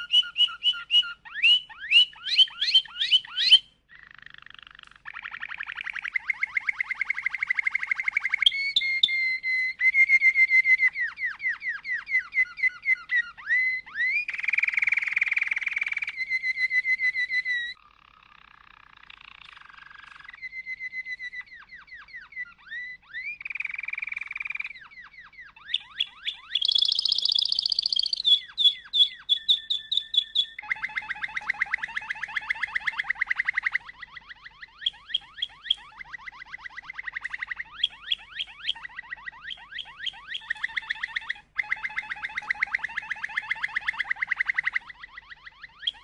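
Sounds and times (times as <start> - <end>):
canary singing: 0.0 - 46.0.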